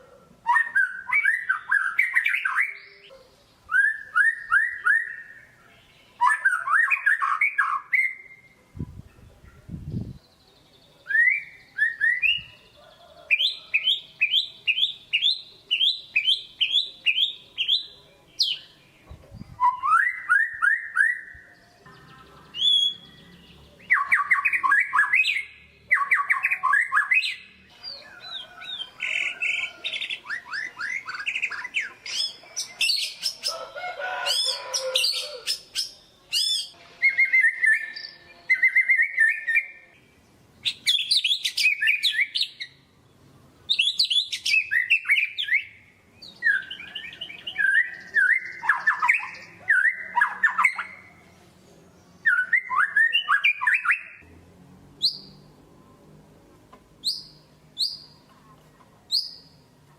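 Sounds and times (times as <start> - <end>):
songbird singing varied song: 0.4 - 33.6, 34.3 - 54.2, 55.0 - 55.6, 57.0 - 58.3, 59.1 - 59.8.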